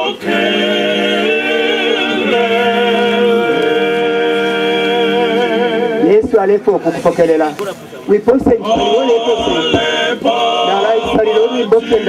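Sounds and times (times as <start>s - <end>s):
group of voices singing: 0.0s - 6.4s, 8.3s - 12.0s.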